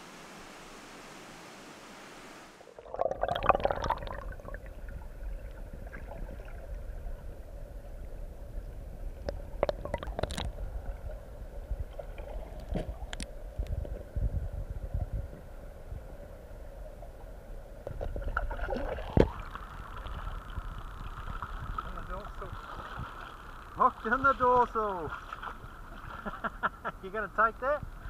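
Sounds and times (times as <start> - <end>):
underwater rumble and gurgling: 2.8 - 26.4.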